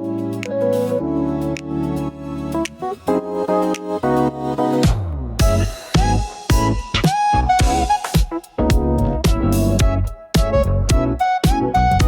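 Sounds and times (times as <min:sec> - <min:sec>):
electronic pop song: 0:00.0 - 0:12.0.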